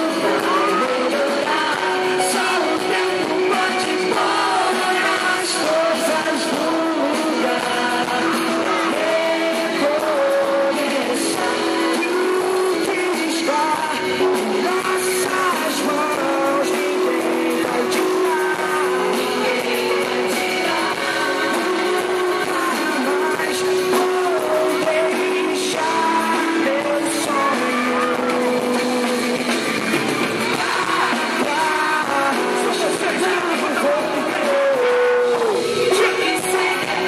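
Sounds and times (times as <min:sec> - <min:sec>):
band with guitar: 0:00.0 - 0:37.0
person singing: 0:00.0 - 0:37.0.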